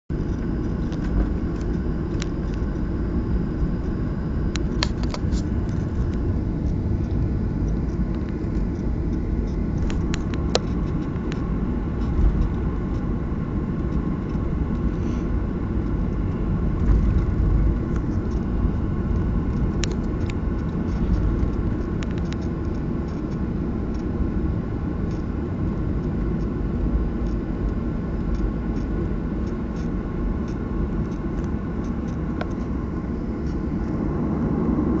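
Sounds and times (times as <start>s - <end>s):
low rumble of jet engines: 0.0s - 35.0s.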